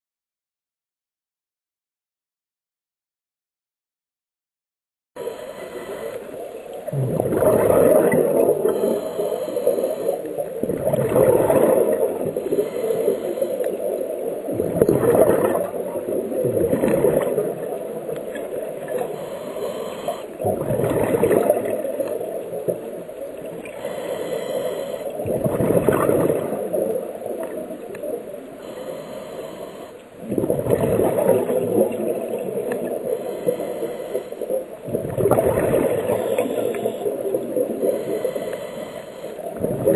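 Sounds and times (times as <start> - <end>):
underwater bubbles gurgling: 5.3 - 39.9.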